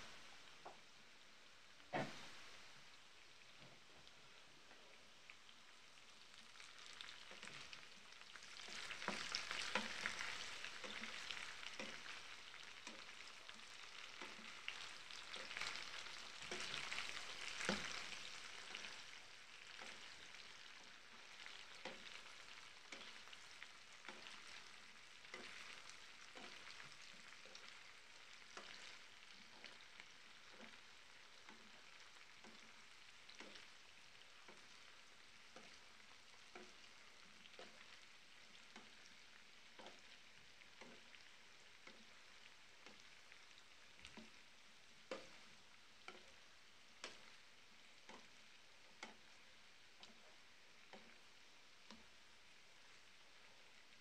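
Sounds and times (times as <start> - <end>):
potatoes sizzling in oil: 0.0 - 54.0.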